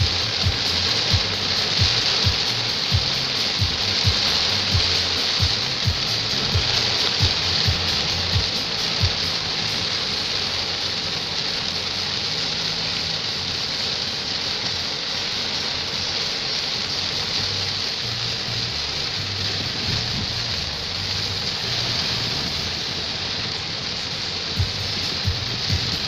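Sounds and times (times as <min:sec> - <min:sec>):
music playing: 0:00.0 - 0:14.1, 0:15.3 - 0:23.5, 0:24.1 - 0:26.0
rain falling: 0:00.0 - 0:26.0.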